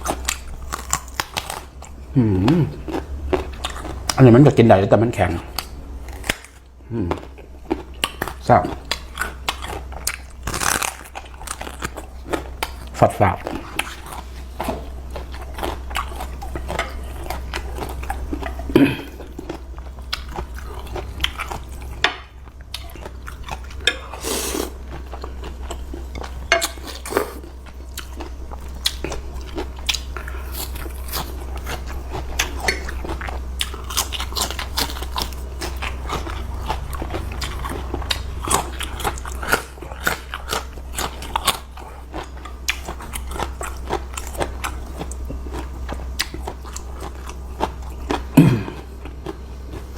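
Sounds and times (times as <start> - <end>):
chewing and crunching food: 0.0 - 49.9
steady low hum: 0.0 - 49.9.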